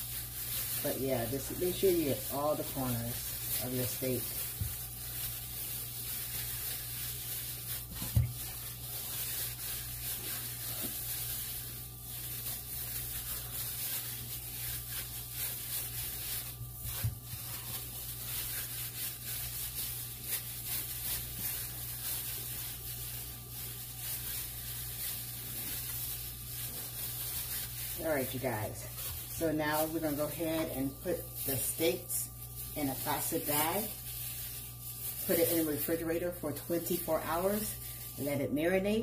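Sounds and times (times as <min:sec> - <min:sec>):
gloved hands rubbing meat: 0:00.0 - 0:38.4.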